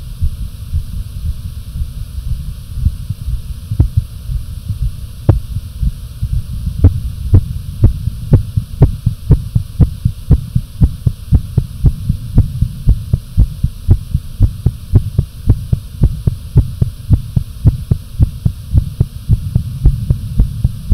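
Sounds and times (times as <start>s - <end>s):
low rumble: 0.0s - 20.9s
rapid heartbeat thumps: 0.0s - 20.9s.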